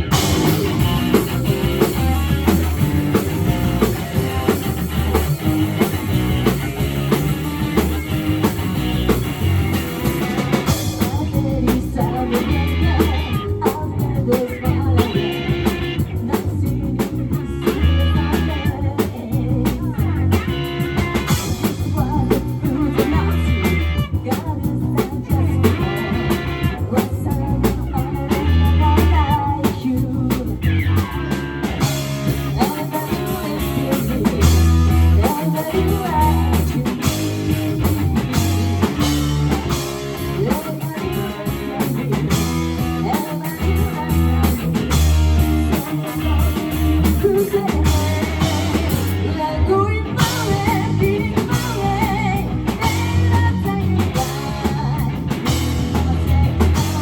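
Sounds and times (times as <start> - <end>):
bass guitar: 0.0 - 57.0
drum kit: 0.0 - 57.0
electric guitar: 0.0 - 57.0
person singing: 0.0 - 57.0.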